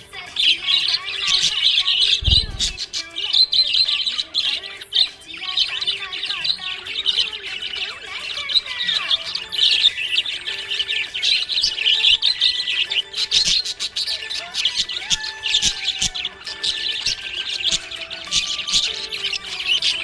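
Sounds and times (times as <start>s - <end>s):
parrots chirping and chattering: 0.0s - 20.0s.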